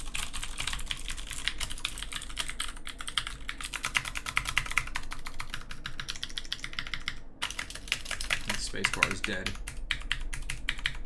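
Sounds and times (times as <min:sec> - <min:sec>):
mechanical keyboard clicking: 0:00.0 - 0:11.0.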